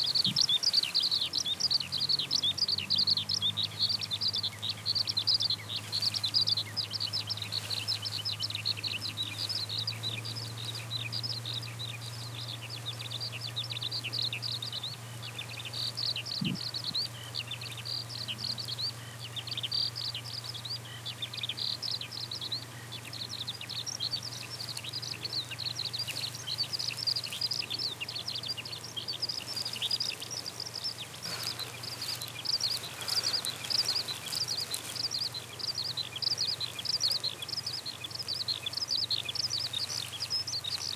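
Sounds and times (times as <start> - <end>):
skylark singing: 0.0 - 40.9.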